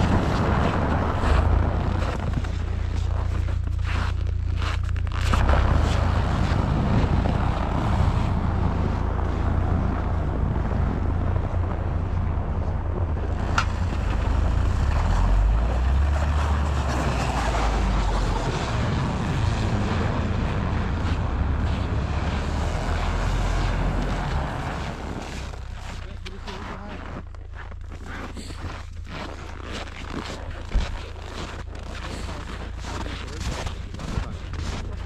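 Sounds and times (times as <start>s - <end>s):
road and wind noise: 0.0s - 35.0s
vehicle engine rumble: 0.0s - 35.0s.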